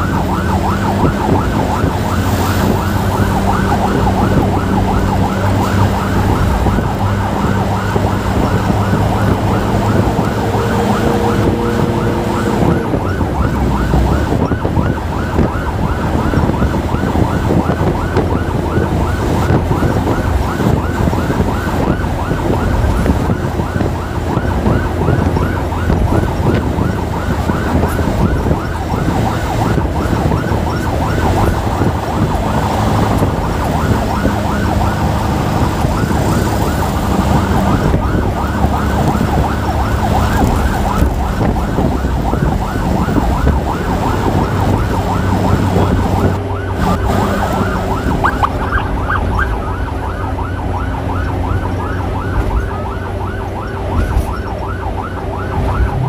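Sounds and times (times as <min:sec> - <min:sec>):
road rumble: 0:00.0 - 0:56.0
siren yelping: 0:00.0 - 0:56.0.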